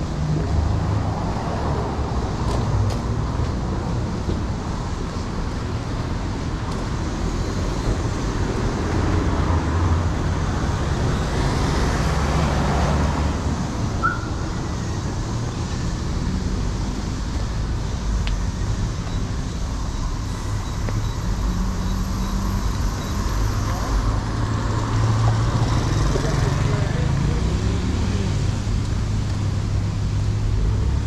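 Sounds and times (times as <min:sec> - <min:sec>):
passing cars rumble: 0:00.0 - 0:31.0.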